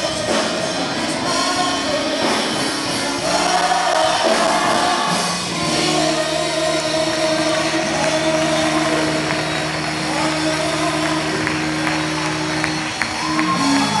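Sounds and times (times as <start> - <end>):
choir and band holding chord: 0.0 - 14.0
crowd noise: 0.0 - 14.0.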